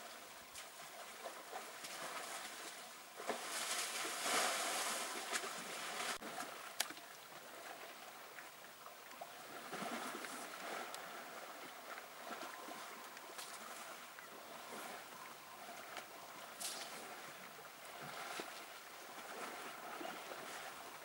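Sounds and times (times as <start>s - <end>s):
mud and water sloshing: 0.0s - 21.0s.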